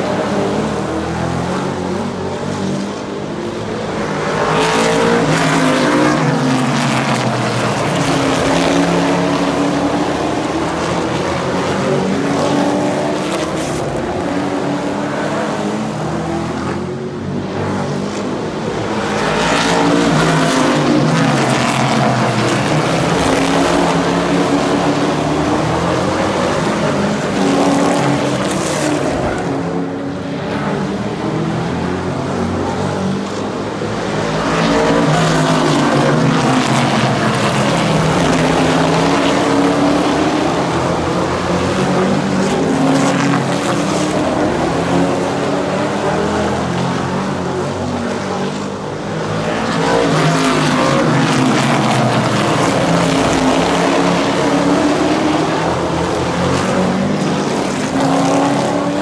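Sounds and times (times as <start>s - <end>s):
racing truck engines passing: 0.0s - 59.0s.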